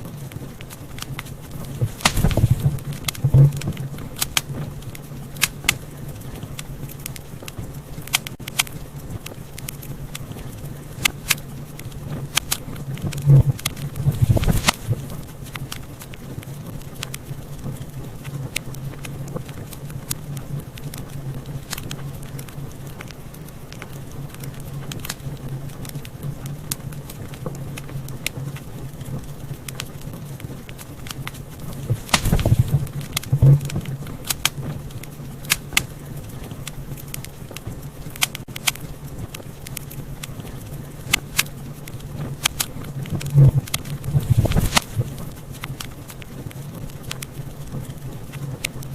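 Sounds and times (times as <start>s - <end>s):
fire pops: 0.0s - 48.9s
wood fire crackling: 0.0s - 48.9s.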